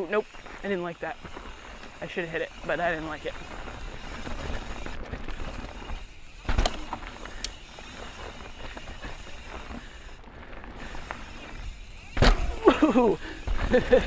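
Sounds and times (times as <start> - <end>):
bike tyre noise and rattle: 0.0 - 14.0.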